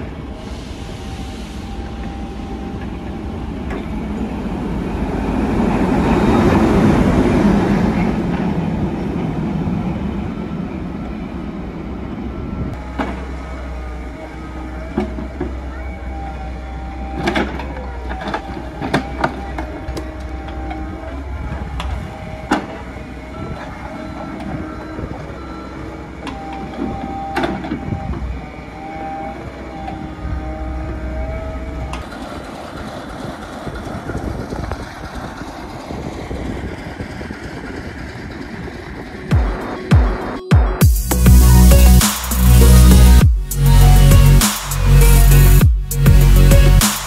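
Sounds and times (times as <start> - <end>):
rail wagons rumbling and rattling: 0.0 - 46.9
diesel engine humming: 0.0 - 47.0.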